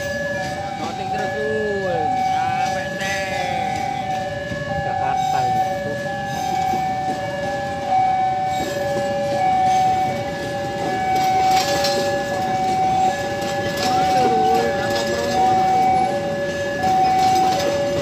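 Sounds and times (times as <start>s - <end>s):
low train rumble: 0.0s - 18.0s
two-tone crossing alarm: 0.0s - 18.0s.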